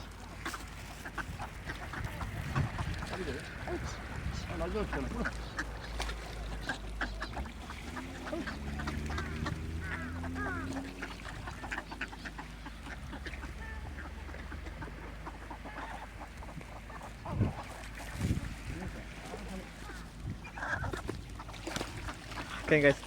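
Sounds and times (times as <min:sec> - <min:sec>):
ducks quacking: 0:00.0 - 0:23.0.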